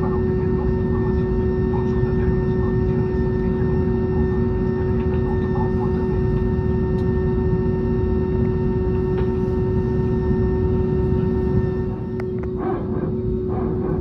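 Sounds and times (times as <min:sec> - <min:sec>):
airplane cabin drone: 0:00.0 - 0:14.0.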